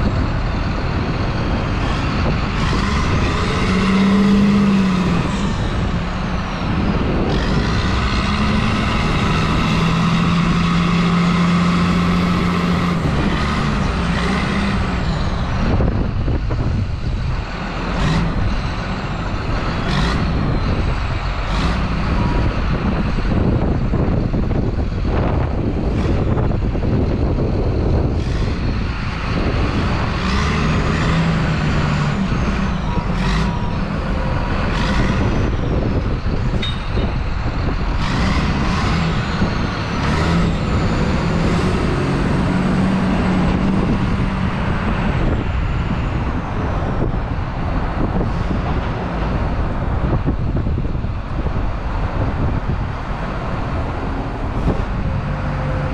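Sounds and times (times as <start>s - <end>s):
diesel truck engine running: 0.0s - 55.9s
wheel loader working: 0.0s - 55.9s.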